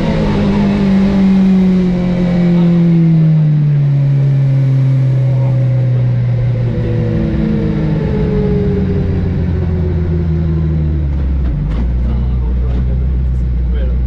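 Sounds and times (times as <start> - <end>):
car engine from inside cabin: 0.0 - 14.0.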